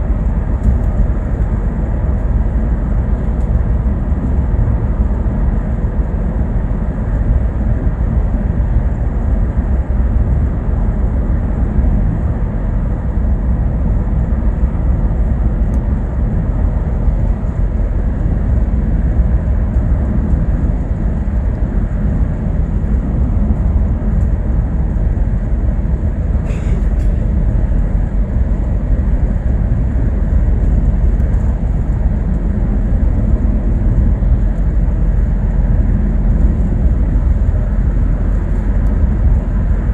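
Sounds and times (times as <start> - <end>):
bus rumble from inside: 0.0 - 39.9.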